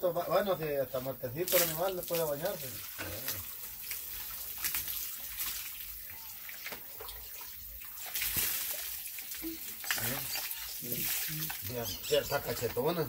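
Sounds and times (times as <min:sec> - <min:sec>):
water splashing and dripping: 0:01.4 - 0:12.9.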